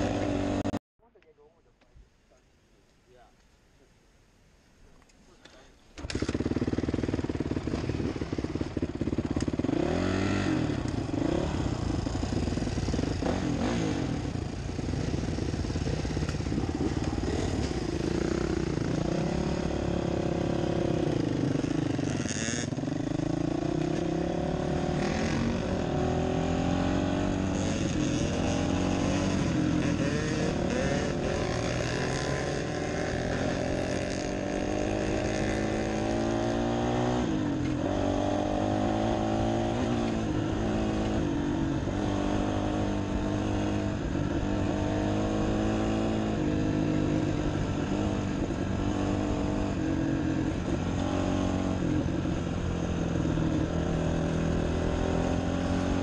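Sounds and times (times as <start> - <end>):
dirt bike engine revving: 0.0 - 0.8, 6.0 - 56.0.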